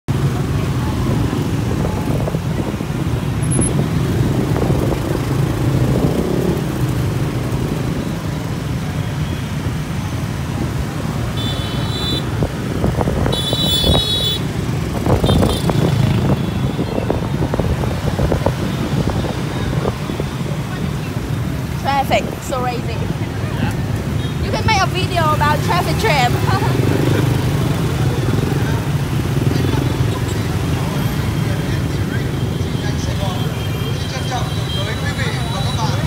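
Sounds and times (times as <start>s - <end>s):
scooter and motorbike traffic: 0.1s - 36.0s.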